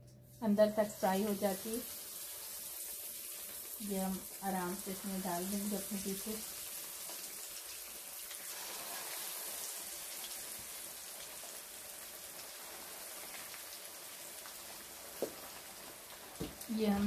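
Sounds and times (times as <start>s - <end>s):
fish deep-frying in oil: 0.4s - 17.0s.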